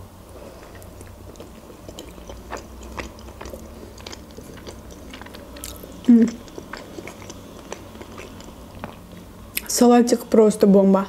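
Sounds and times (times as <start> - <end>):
faint low hum: 0.0 - 11.0
person chewing salad: 0.3 - 9.7.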